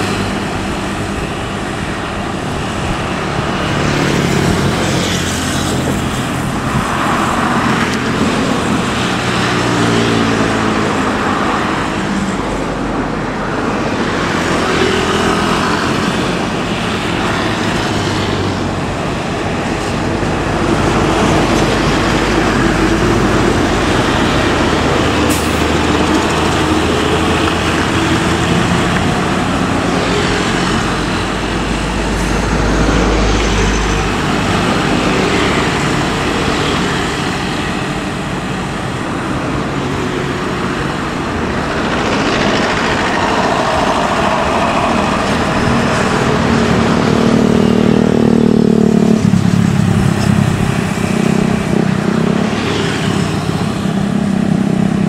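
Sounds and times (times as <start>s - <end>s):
diesel buses driving past: 0.0s - 55.0s.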